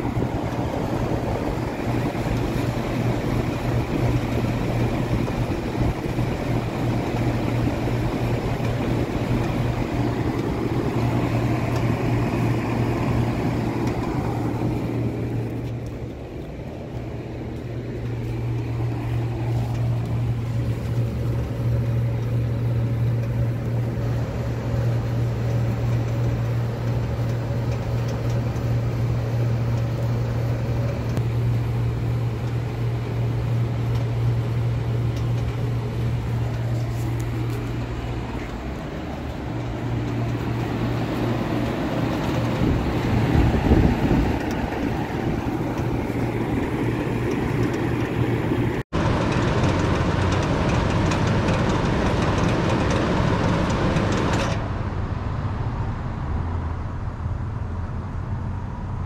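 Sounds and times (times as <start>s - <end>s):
condenser fan air rush: 0.0s - 59.0s
low electrical hum: 0.0s - 59.0s.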